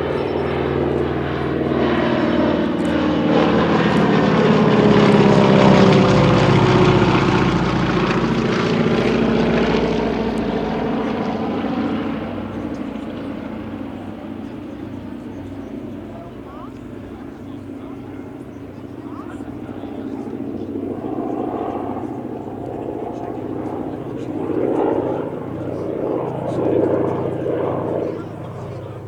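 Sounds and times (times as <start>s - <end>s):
propeller aircraft engine drone: 0.0s - 29.0s.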